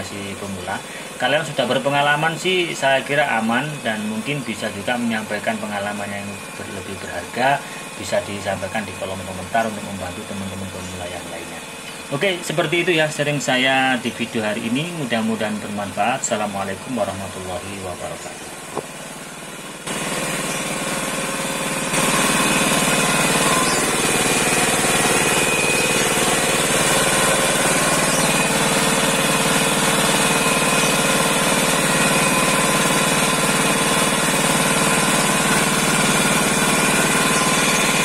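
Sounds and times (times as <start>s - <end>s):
engine-driven grinding mill: 0.0s - 38.0s.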